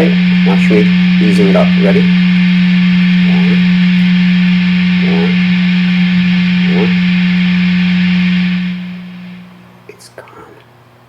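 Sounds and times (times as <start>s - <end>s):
guitar amp mains hum and hiss: 0.0s - 11.0s.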